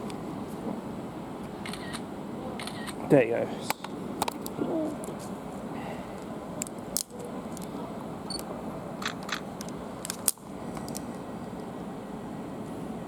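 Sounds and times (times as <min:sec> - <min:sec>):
background station hum: 0:00.0 - 0:13.0.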